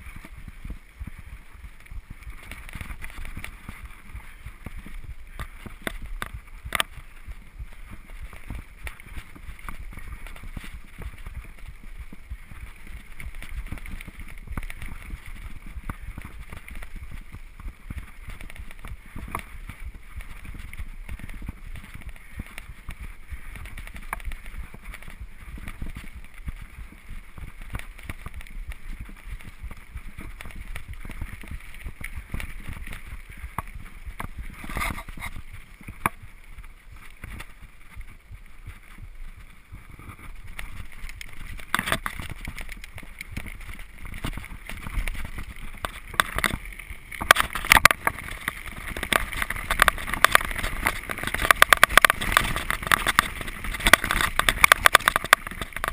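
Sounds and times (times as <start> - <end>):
bike tyres rumbling on dirt: 0.0 - 55.9
wind buffeting microphone: 0.0 - 55.9.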